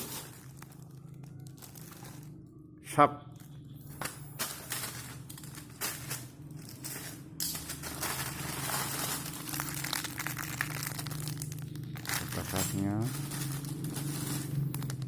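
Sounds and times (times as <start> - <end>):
plastic packaging crinkling: 0.0 - 2.5, 4.4 - 15.0
steady low hum: 0.0 - 15.0.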